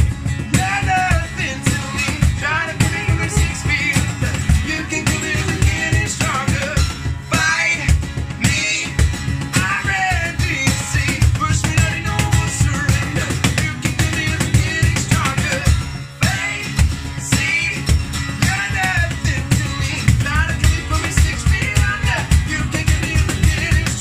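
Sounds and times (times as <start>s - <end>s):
man singing: 0.0s - 24.0s
strummed acoustic guitar: 0.0s - 24.0s.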